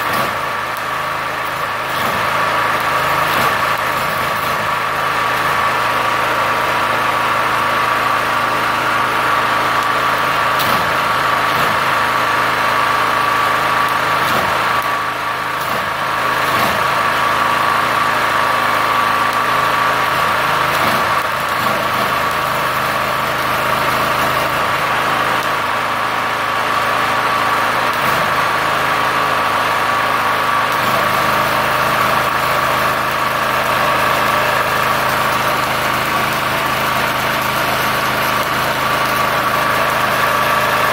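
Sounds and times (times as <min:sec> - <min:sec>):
gasoline generator running: 0:00.0 - 0:40.9.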